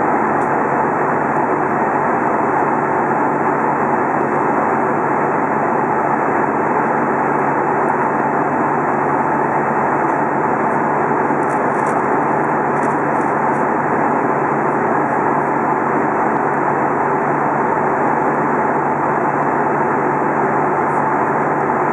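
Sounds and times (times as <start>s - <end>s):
airplane cabin engine rush: 0.0s - 21.9s.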